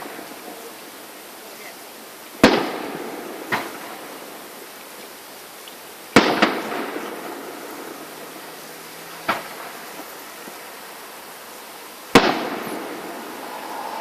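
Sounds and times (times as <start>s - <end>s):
fireworks bangs: 0.0s - 5.1s, 5.9s - 10.9s, 12.0s - 14.0s
firework crack: 0.0s - 14.0s.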